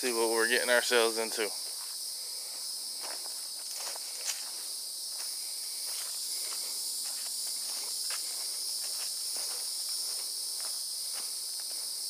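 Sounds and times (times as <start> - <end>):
insects chirping: 0.0 - 12.0
footsteps on sandy dirt trail: 1.6 - 12.0.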